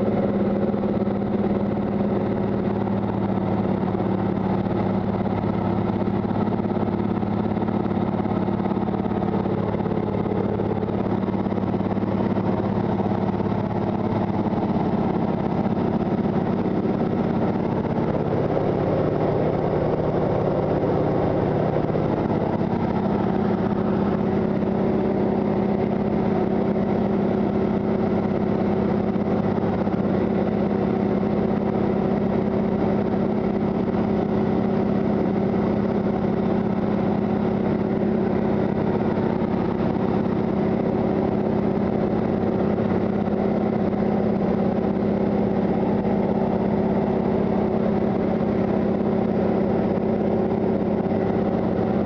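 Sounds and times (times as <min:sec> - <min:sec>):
propeller plane engine drone: 0:00.0 - 0:52.0.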